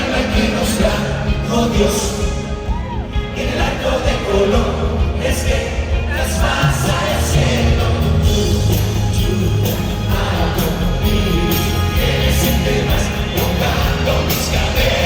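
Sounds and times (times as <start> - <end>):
faint backing vocals: 0.0 - 15.0
pop ballad band music: 0.0 - 15.0.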